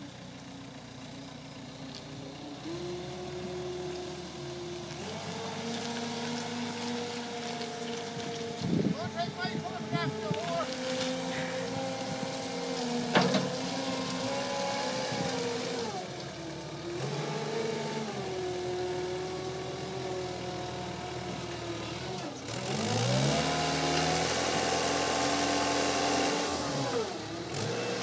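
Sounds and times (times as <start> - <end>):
diesel engine working under load: 0.0 - 28.0.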